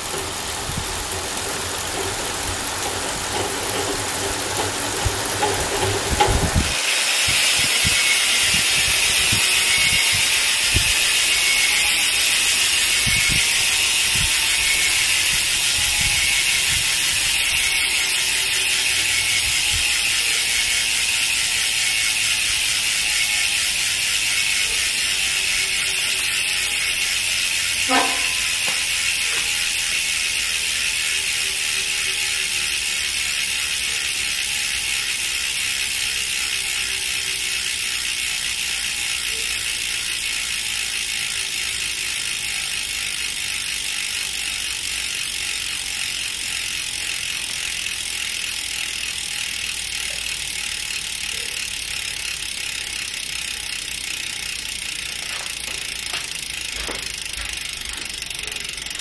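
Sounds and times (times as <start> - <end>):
bicycle freehub clicking: 0.0 - 59.0.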